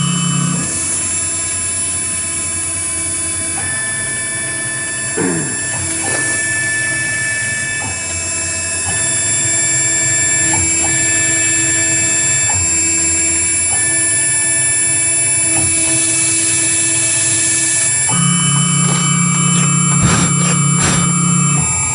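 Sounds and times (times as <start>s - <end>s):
router spindle whine: 0.0s - 21.9s
stepper motor tones: 0.0s - 21.9s.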